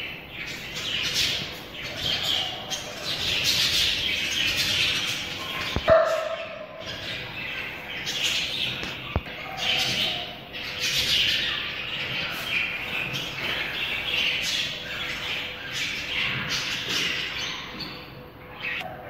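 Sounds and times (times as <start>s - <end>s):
chickens chirping and squawking: 0.0s - 19.0s.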